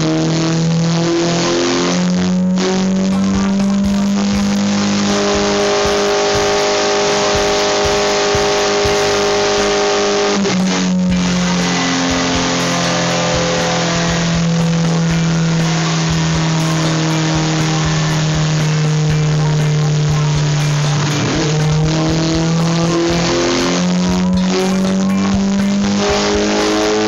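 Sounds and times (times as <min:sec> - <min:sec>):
motorcycle engine high drone: 0:00.0 - 0:27.0.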